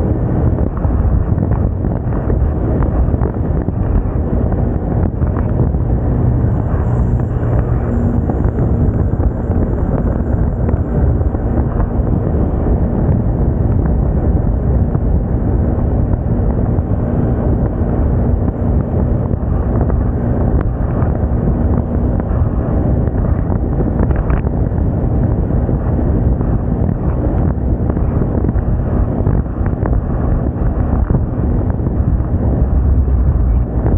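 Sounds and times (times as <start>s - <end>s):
wind noise on microphone: 0.0s - 33.9s.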